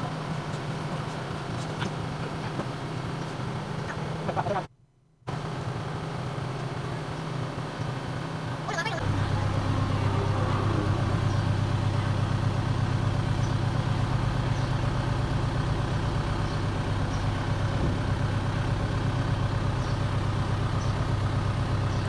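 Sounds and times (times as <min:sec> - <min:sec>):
engine idling: 0:00.0 - 0:04.7, 0:05.3 - 0:22.0.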